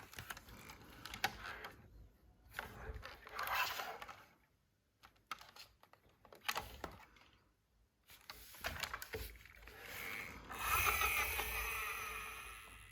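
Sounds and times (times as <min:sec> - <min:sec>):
clicks and rubbing of toys: 0:00.0 - 0:12.9.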